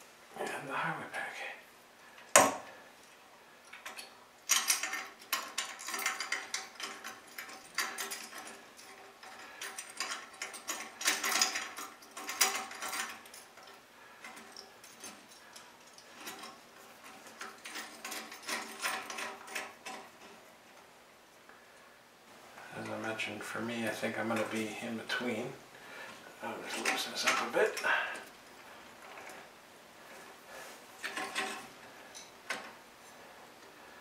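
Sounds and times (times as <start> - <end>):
metal hardware clicking and rattling: 2.2 - 20.9, 23.7 - 25.4, 26.0 - 30.3, 31.0 - 33.8.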